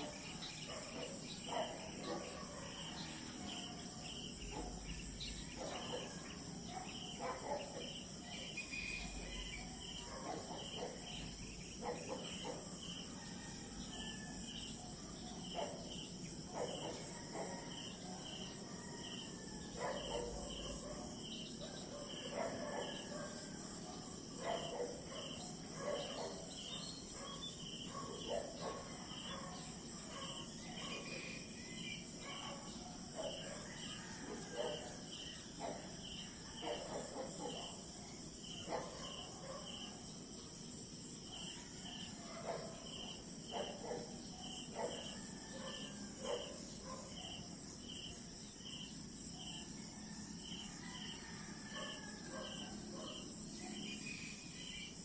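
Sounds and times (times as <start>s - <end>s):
crickets and insects trilling: 0.0s - 55.0s
short lower insect calls: 0.0s - 55.0s.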